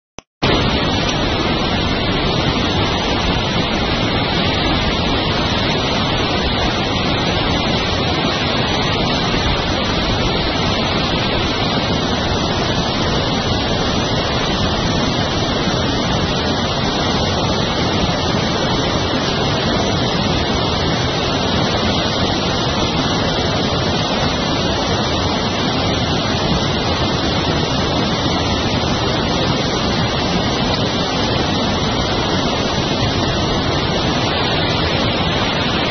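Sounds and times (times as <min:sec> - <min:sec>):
water rushing down chute: 0:00.4 - 0:35.9.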